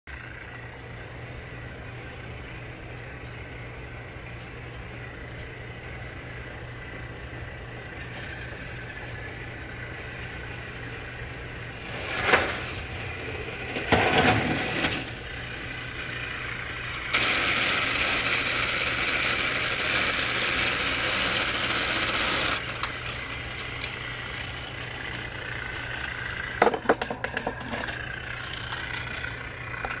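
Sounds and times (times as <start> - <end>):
toy train motor whir: 4.7 - 30.0.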